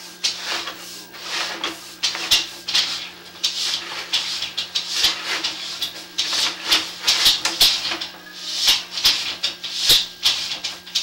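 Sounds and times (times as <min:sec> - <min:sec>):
cable scraping and rattling in pipe: 0:00.0 - 0:11.0.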